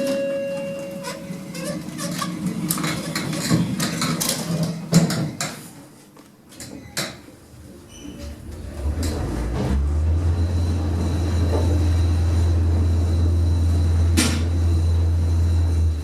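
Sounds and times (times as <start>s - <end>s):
lift doors sliding shut: 0.0s - 5.8s, 6.5s - 16.0s.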